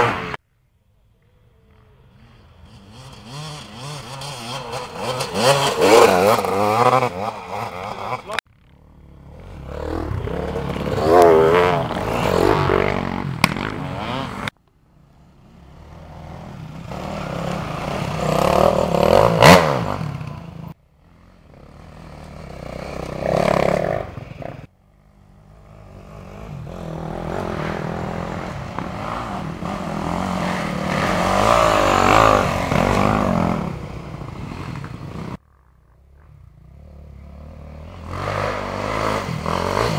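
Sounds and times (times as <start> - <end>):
dirt bike engines revving: 0.0 - 0.4, 1.0 - 39.9.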